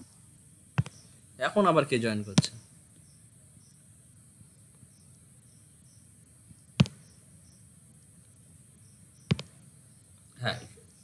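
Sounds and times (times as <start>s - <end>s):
faint high chirping: 0.0s - 11.0s.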